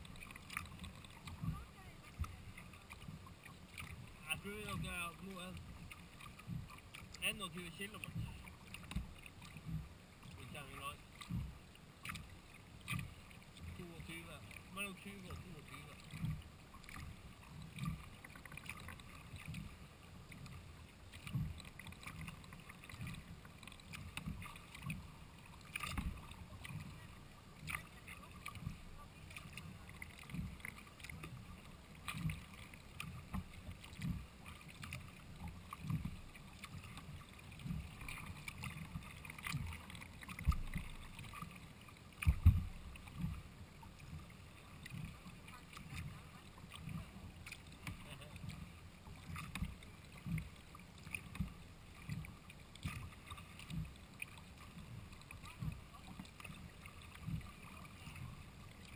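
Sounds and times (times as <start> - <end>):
paddle splashing in water: 0.0 - 58.9.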